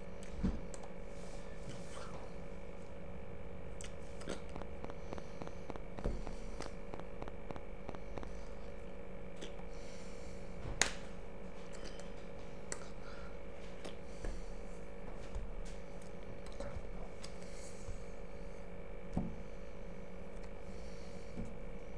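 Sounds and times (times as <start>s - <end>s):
steady hum of fixed tones: 0.0s - 21.9s.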